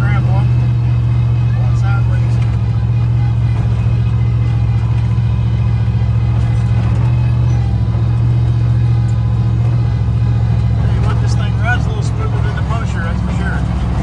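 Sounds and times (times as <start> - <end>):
car driving rumble: 0.0 - 14.0.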